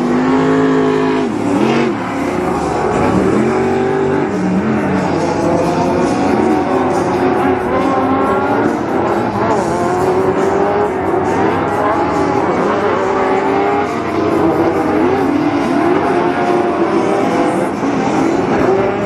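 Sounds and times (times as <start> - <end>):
racing truck engines revving: 0.0 - 19.0.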